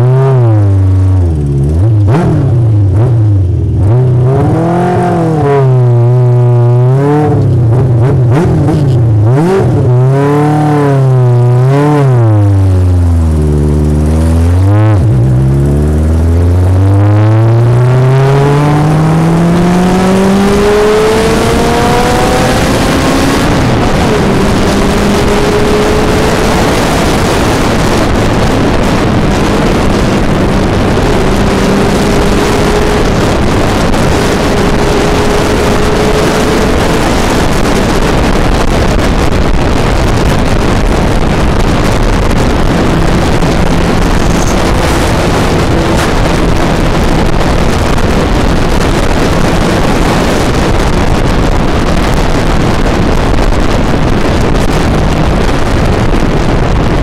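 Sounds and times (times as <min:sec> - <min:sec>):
motorcycle engine revving: 0:00.0 - 0:57.0
wind noise on microphone: 0:00.0 - 0:57.0.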